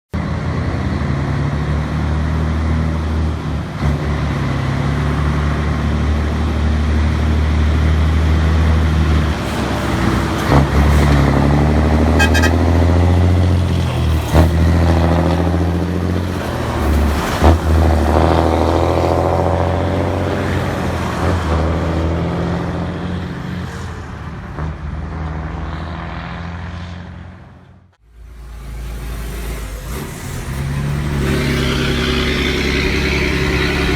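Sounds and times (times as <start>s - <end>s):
diesel truck engine rumbling: 0.2s - 33.9s.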